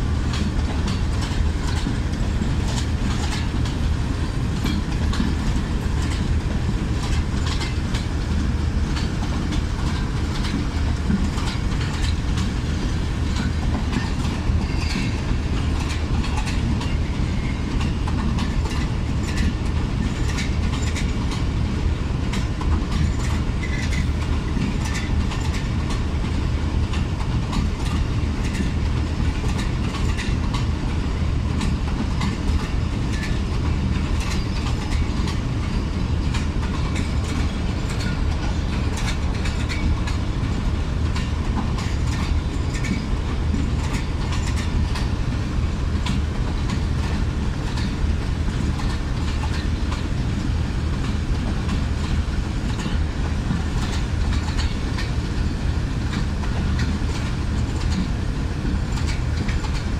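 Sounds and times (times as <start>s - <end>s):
train coaches rumbling past: 0.0s - 59.9s
wheels clacking over rail joints: 0.0s - 59.9s.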